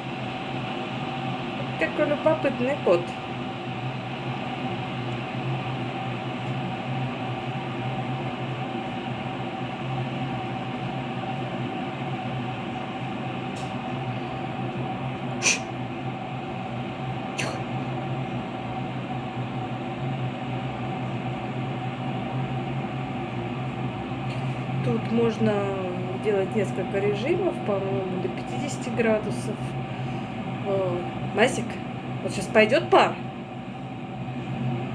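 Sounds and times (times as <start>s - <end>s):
electric kettle hissing: 0.0s - 34.9s.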